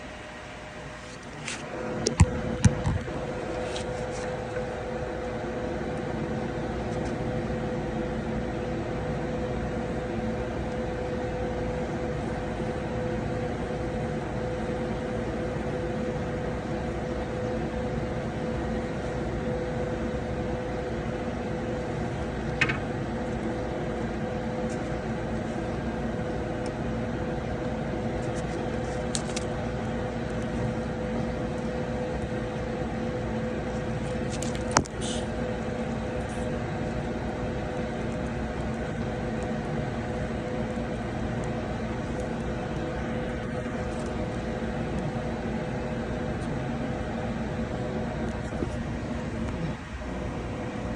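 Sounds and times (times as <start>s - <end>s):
small boat engine humming: 0.0s - 50.9s.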